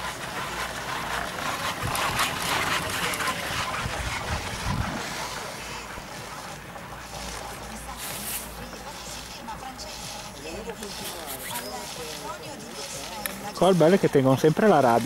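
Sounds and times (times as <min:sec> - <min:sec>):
chairlift grip clacking over sheaves: 0:00.0 - 0:05.4, 0:06.4 - 0:15.0.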